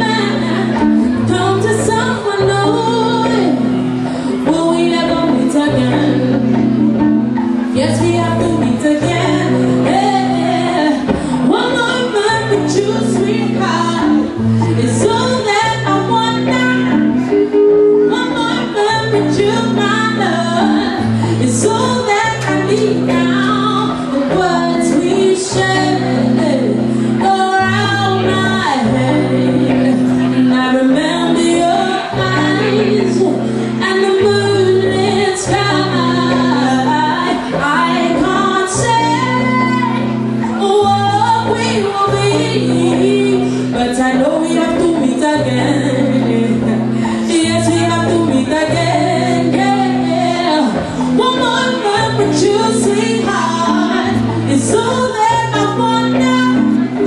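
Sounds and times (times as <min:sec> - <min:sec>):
electric guitar chords: 0:00.0 - 0:57.0
woman singing: 0:00.0 - 0:57.0.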